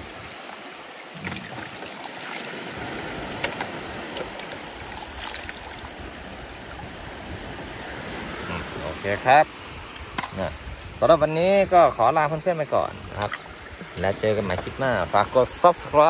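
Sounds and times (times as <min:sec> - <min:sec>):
small waves washing on sand: 0:00.0 - 0:16.0.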